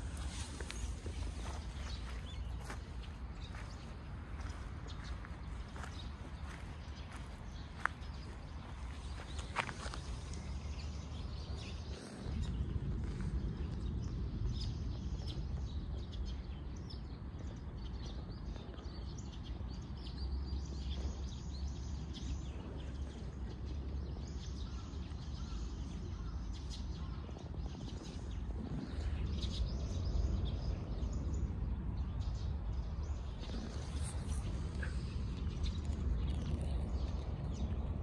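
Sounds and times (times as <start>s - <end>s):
small birds chirping: 0.0s - 38.0s
steady low rumble: 0.0s - 38.0s.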